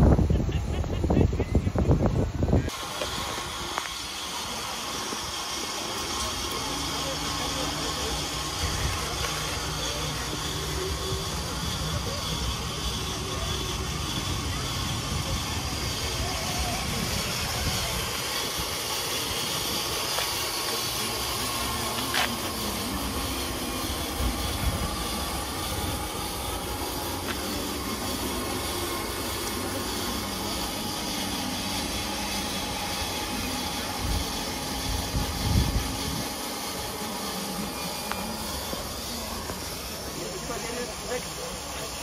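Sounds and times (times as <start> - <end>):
model excavator motor whine: 0.0 - 42.0
steady hiss: 0.0 - 42.0.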